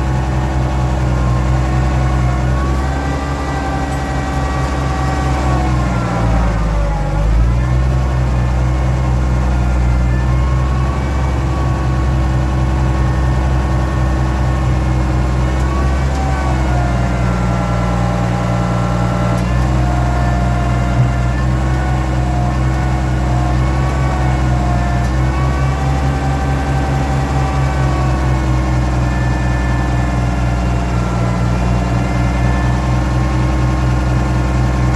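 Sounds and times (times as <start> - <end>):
hydraulic pump whining: 0.0 - 34.9
tractor engine running: 0.0 - 34.9.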